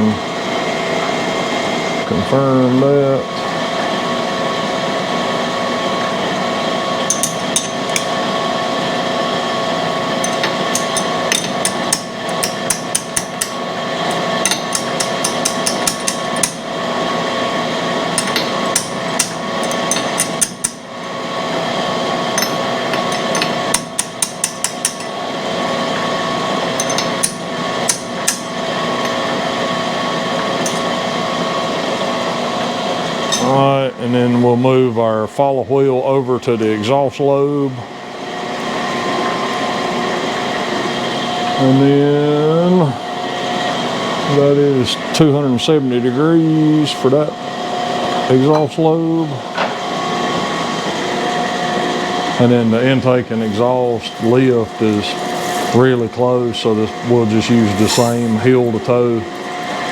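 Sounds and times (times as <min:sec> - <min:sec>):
grinding machine whirring hum: 0:00.0 - 0:59.9.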